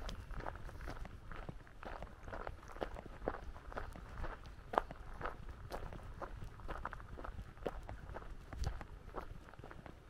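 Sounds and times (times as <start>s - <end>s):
footsteps on gravel: 0.0s - 10.0s.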